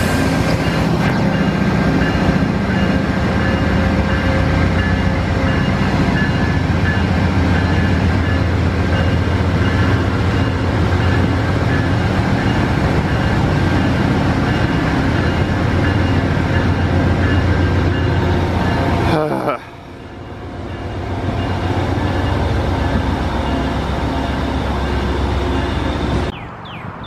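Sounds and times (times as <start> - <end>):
train wheels rumbling on rails: 0.0 - 26.4
diesel locomotive drone: 0.0 - 27.0.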